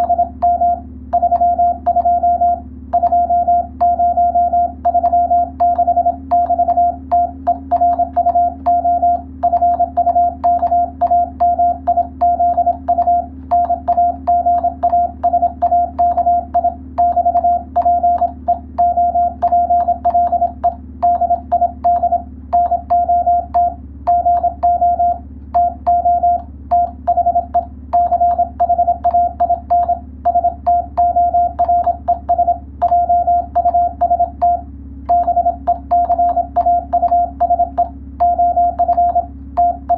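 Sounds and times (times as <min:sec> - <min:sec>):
faint low hum: 0:00.0 - 0:39.9
keying clicks: 0:00.0 - 0:39.9
morse code tone: 0:00.0 - 0:39.9.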